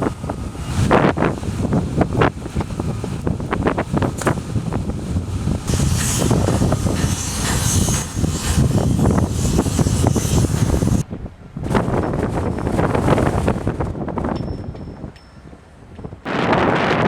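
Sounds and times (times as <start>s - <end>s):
gusting wind on microphone: 0.0s - 17.0s.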